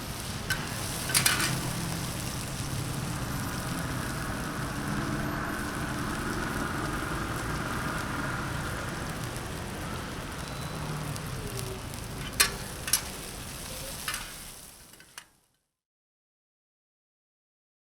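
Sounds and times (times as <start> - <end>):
steady hissing noise: 0.0 - 15.3.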